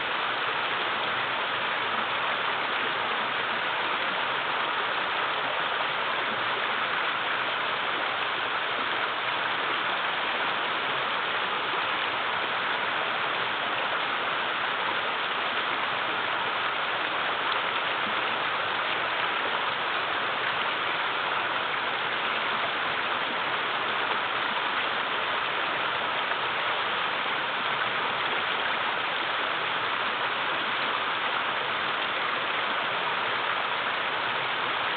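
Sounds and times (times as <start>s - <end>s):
river rushing over rocks: 0.0s - 34.9s.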